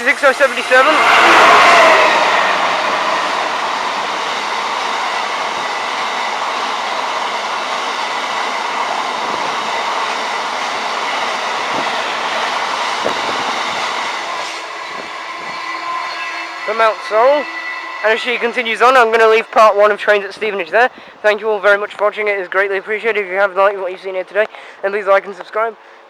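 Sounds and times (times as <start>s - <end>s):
diesel locomotive passing: 0.0s - 25.2s.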